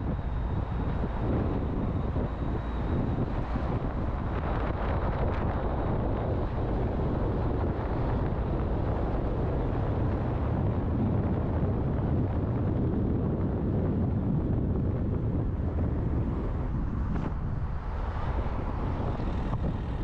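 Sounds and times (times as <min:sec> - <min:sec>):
car road noise: 0:00.0 - 0:20.0
wind rush: 0:00.0 - 0:20.0.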